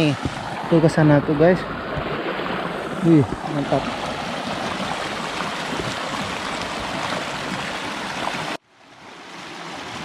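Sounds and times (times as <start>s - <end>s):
stream rushing over stones: 0.0s - 10.0s.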